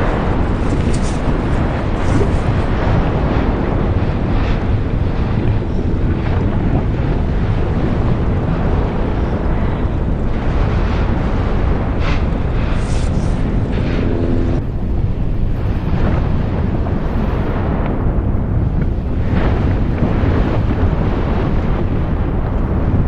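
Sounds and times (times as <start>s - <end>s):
volcanic eruption rumble: 0.0s - 23.0s
wind noise on microphone: 0.0s - 23.0s.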